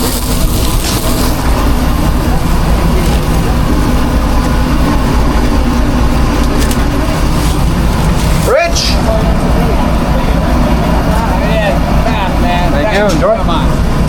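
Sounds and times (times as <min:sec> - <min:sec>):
kitchen equipment drone: 0:00.0 - 0:14.0.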